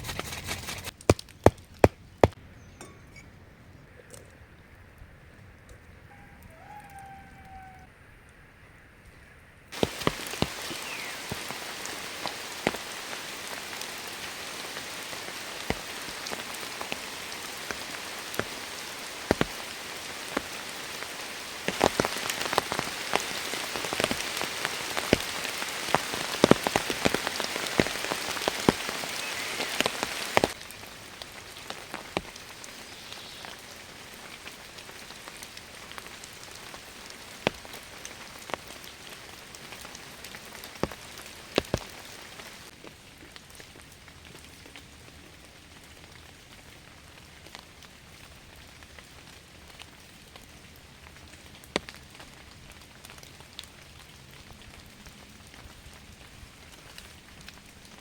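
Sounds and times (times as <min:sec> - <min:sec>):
large raindrops tapping: 0:00.6 - 0:02.4, 0:09.7 - 0:58.0
heavy rain falling: 0:09.7 - 0:58.0.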